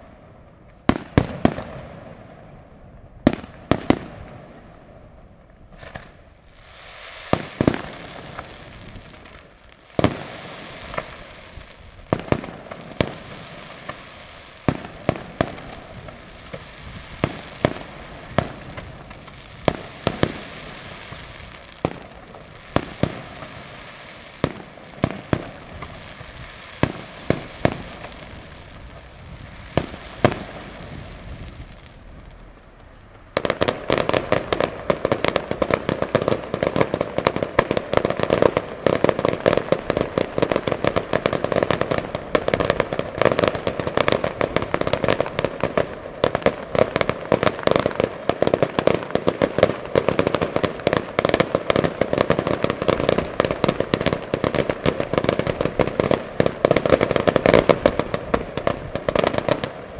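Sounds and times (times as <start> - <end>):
rapid-fire firework barrage: 0.0 - 2.6, 3.2 - 59.9
fireworks crackling hiss: 0.0 - 59.9.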